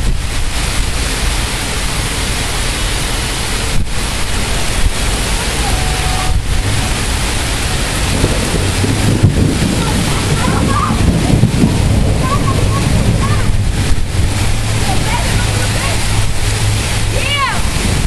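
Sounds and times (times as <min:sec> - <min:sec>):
heavy rain pouring: 0:00.0 - 0:18.0
wind rumbling on microphone: 0:00.0 - 0:18.0.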